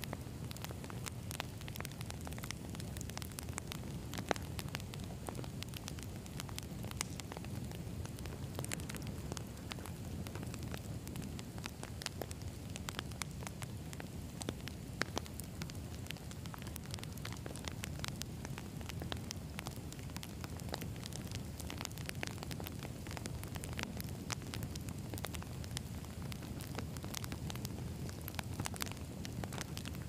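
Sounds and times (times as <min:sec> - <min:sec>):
burning logs crackling and popping: 0:00.0 - 0:30.0
campfire flames rumbling: 0:00.0 - 0:30.0.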